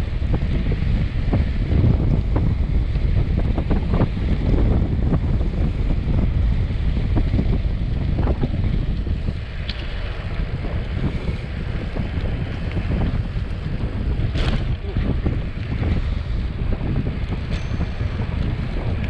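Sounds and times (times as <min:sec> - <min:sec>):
bicycle tyre rumble: 0:00.0 - 0:19.0
wind buffeting microphone: 0:00.0 - 0:19.0.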